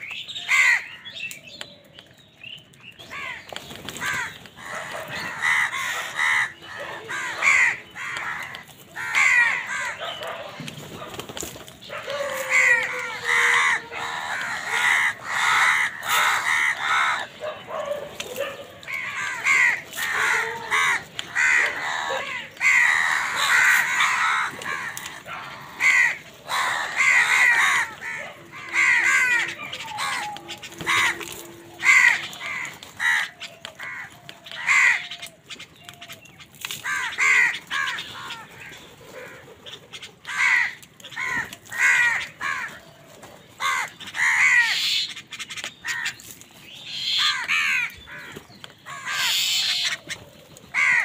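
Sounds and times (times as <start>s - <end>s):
crows cawing: 0.0s - 1.1s, 3.0s - 51.0s.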